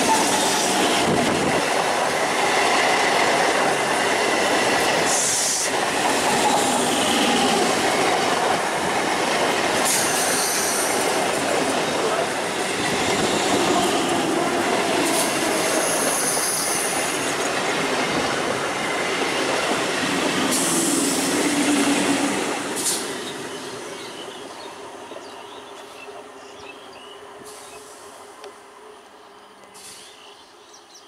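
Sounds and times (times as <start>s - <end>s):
train wheels and coaches rattling: 0.0s - 26.3s.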